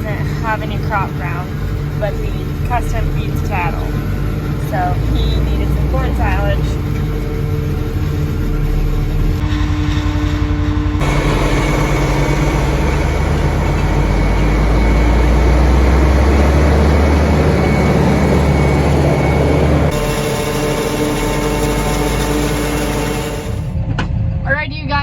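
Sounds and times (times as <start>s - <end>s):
diesel engine running under load: 0.0s - 9.9s, 10.7s - 23.8s.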